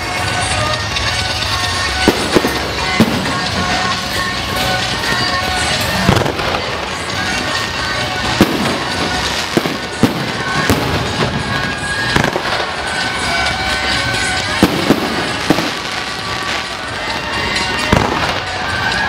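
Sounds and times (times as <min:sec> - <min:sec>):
firecrackers crackling: 0:00.0 - 0:19.0
loud firecracker bangs: 0:01.9 - 0:19.0.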